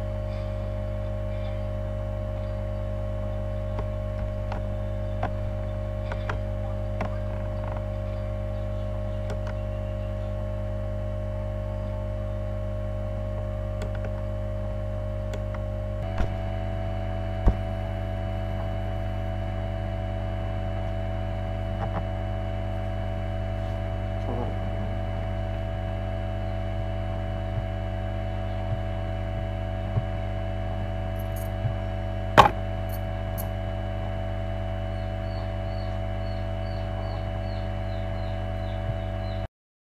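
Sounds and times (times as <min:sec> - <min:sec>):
electrical hum: 0:00.0 - 0:39.5
thin whine: 0:00.0 - 0:39.5.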